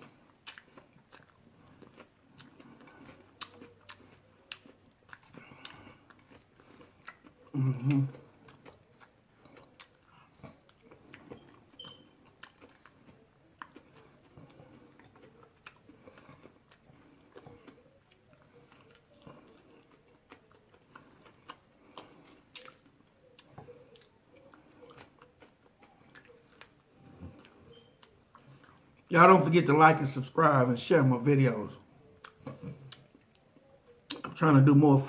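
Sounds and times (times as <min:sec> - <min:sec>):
man chewing food: 0:00.0 - 0:29.2, 0:31.4 - 0:34.5.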